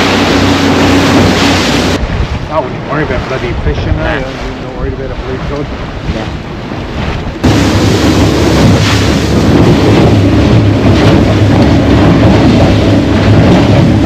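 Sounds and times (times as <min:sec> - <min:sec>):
outboard motor drone: 0:00.0 - 0:14.0
water rushing past hull: 0:00.0 - 0:14.0
wind buffeting microphone: 0:00.0 - 0:14.0.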